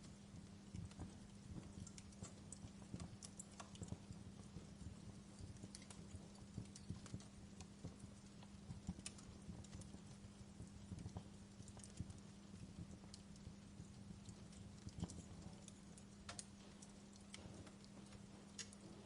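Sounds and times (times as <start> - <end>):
steady low hum: 0.0 - 19.0
wood fire crackling: 0.0 - 19.0.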